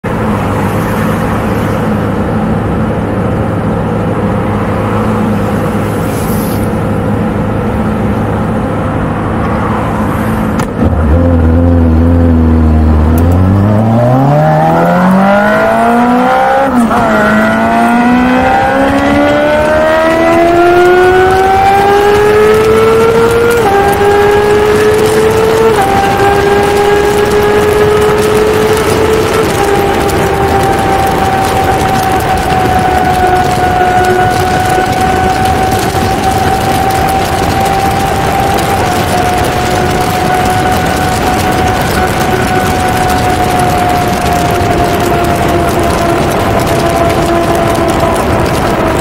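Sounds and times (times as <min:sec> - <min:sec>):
motorcycle engine accelerating: 0:00.0 - 0:49.0.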